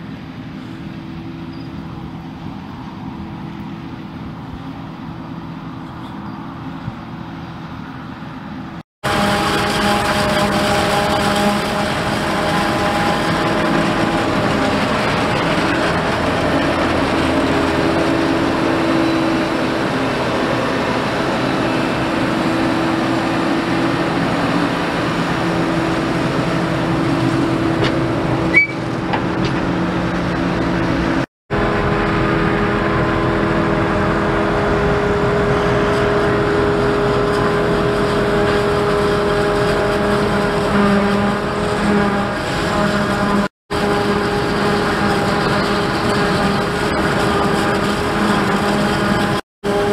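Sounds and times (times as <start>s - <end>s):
harvester and tractor engines droning: 0.0s - 49.9s.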